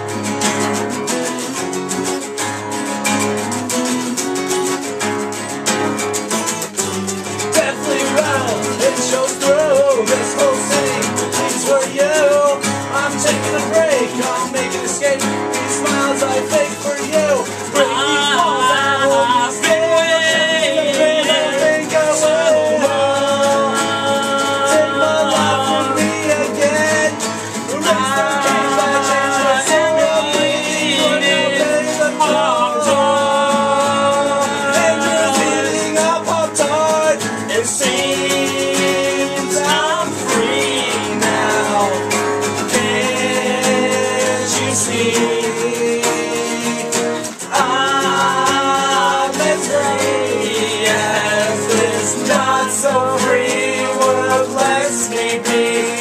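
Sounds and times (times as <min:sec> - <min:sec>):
acoustic guitars strumming and picking: 0:00.0 - 0:56.0
person singing: 0:07.3 - 0:56.0.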